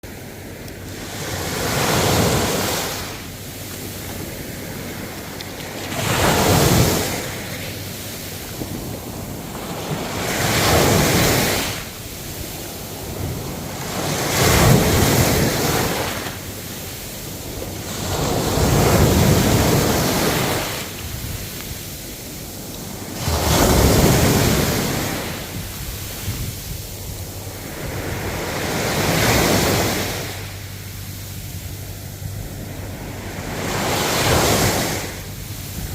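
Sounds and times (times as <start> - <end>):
ocean waves breaking: 0.0 - 35.9.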